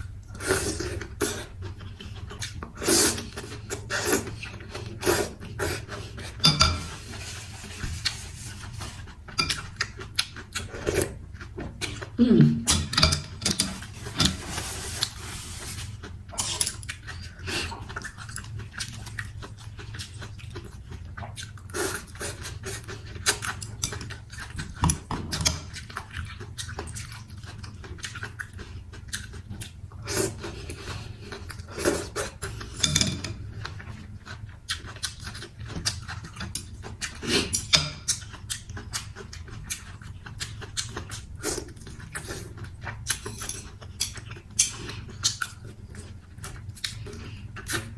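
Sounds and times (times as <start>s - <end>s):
wet chewing and slurping: 0.2s - 12.2s, 12.8s - 47.9s.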